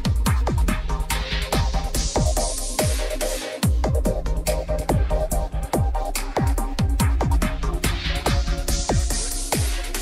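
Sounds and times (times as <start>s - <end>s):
deep kick drum: 0.0s - 10.0s.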